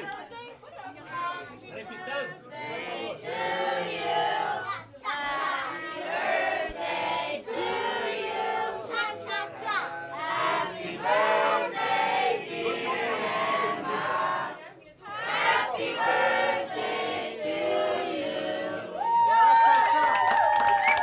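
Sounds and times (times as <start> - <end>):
group singing birthday song: 1.2 - 19.1.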